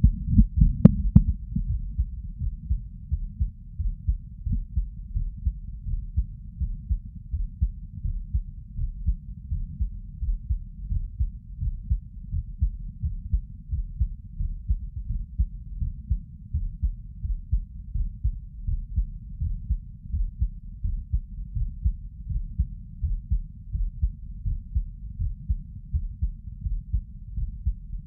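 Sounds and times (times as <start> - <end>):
heartbeat thumps: 0.0 - 28.0.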